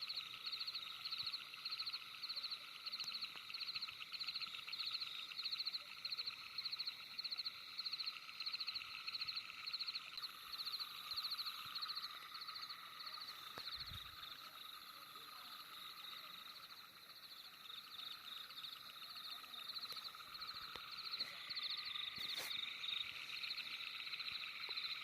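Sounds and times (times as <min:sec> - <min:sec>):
frogs trilling: 0:00.0 - 0:25.0.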